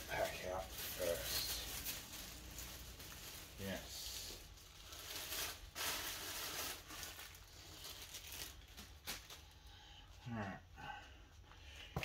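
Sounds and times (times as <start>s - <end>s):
packaging rustling and crinkling: 0.0s - 9.8s.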